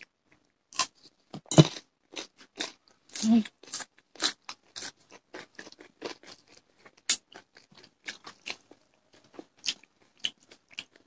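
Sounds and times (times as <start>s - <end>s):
people chewing and lip smacking: 0.0s - 11.0s.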